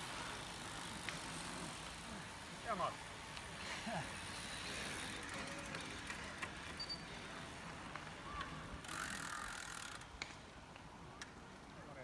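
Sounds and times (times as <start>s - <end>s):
bicycle tyres hissing on asphalt: 0.0s - 10.0s.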